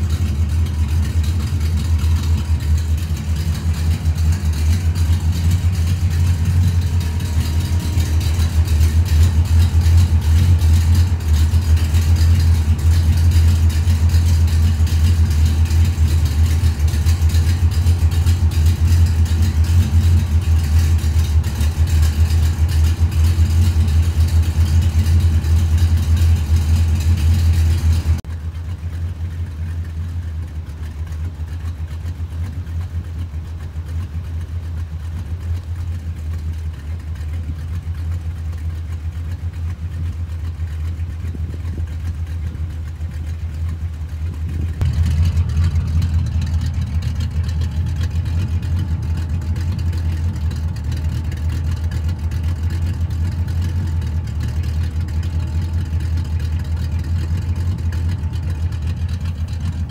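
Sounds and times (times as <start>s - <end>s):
vee eight engine idling: 0.0s - 59.9s.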